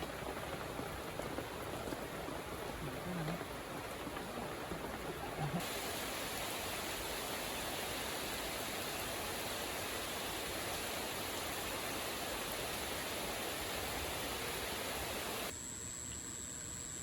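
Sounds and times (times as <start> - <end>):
heavy rain falling: 0.0 - 15.5.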